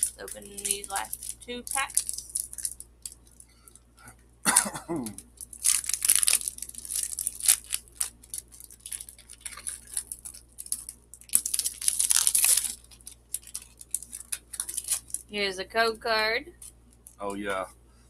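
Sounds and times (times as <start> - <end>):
foil wrapper crinkling and tearing: 0.0 - 3.7, 4.5 - 15.3.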